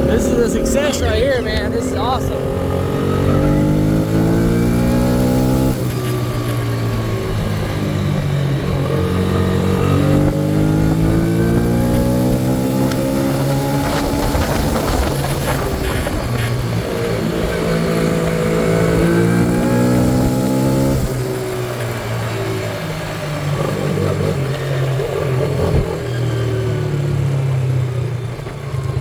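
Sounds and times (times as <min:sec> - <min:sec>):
small engine revving: 0:00.0 - 0:29.0.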